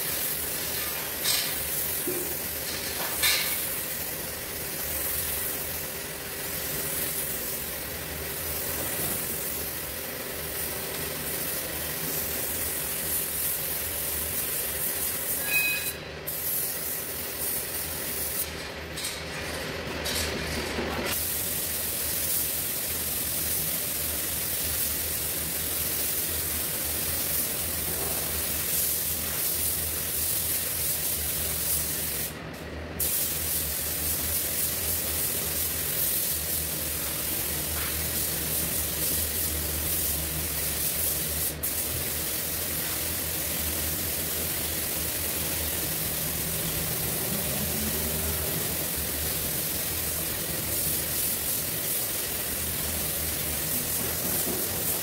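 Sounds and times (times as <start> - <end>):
paint spray gun hissing: 0.0 - 15.5, 16.3 - 18.4, 21.1 - 32.4, 33.0 - 55.0.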